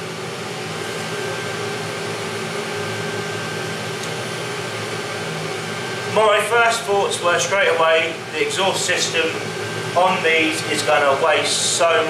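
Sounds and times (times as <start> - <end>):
faint high whine: 0.0 - 12.0
heater blower fan rushing air: 0.0 - 12.0.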